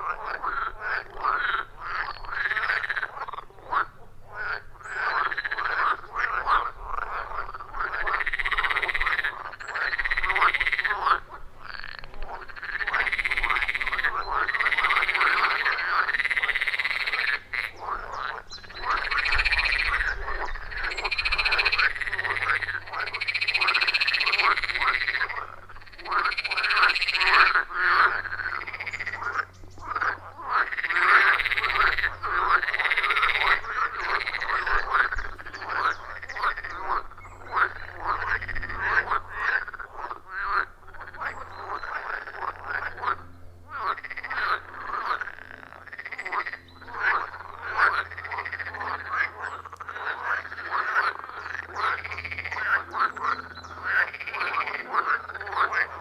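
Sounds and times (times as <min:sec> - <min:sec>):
frogs croaking in chorus: 0:00.0 - 0:56.0.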